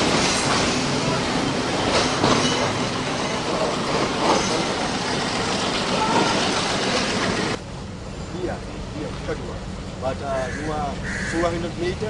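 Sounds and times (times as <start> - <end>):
train rattling and rumbling: 0.0 - 12.0.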